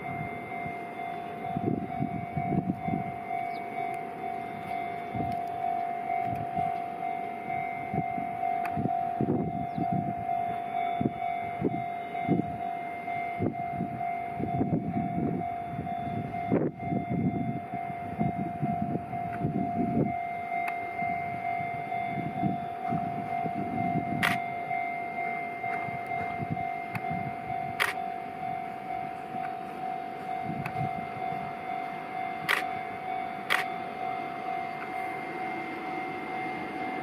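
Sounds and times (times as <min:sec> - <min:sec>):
locomotive low rumble: 0:00.0 - 0:37.0
steady high warning tone: 0:00.0 - 0:37.0.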